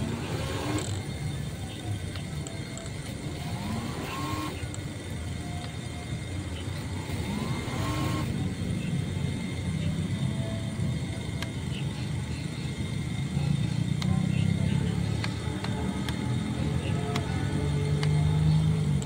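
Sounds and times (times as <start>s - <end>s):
model boat motor rumble: 0.0s - 19.0s.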